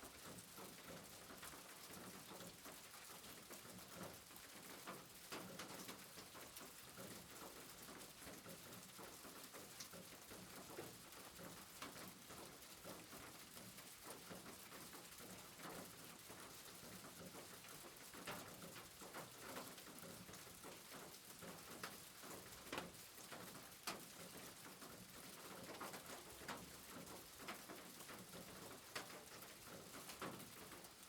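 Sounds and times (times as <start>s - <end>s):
faint rain falling: 0.0s - 31.0s.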